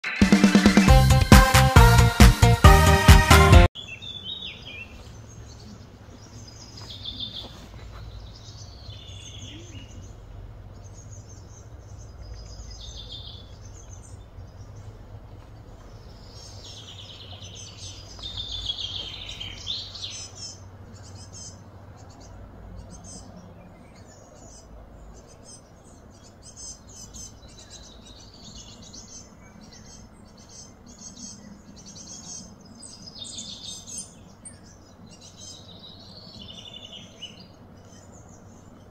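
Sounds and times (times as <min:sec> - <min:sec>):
birds singing and chirping: 0:03.8 - 0:38.9
low steady background rumble: 0:04.4 - 0:38.9.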